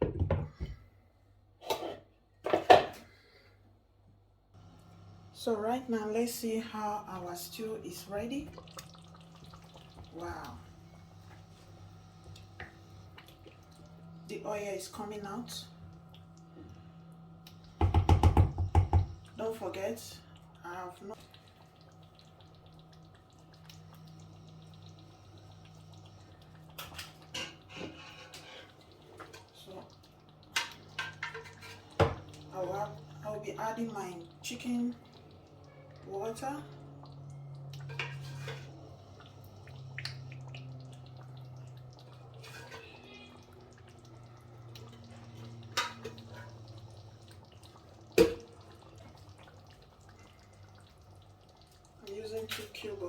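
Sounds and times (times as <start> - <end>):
faint steady hum: 0.4 - 53.0
stew bubbling in a pot: 4.5 - 53.0.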